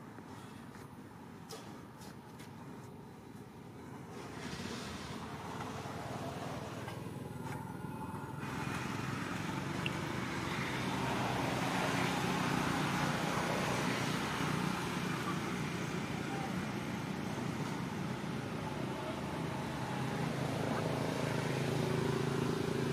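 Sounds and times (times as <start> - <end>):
motor traffic rumble: 0.0 - 22.9.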